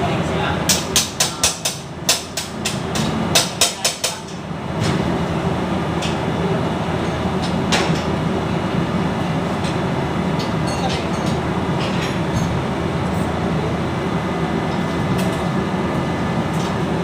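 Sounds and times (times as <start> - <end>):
steady mechanical rumble: 0.0 - 17.0.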